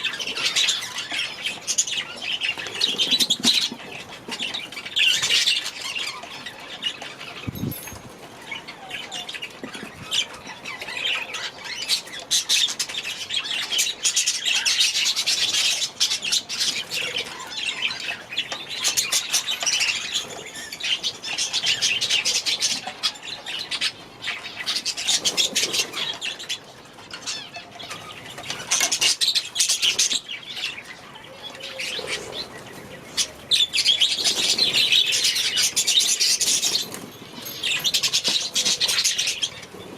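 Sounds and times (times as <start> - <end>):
budgerigars chattering and chirping: 0.0 - 7.7, 8.4 - 39.9.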